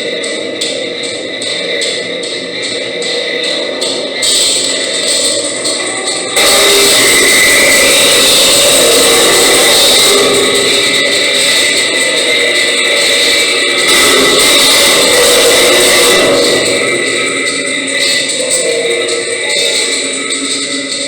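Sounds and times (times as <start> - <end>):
slowed reverb-soaked heavy metal: 0.0 - 21.0.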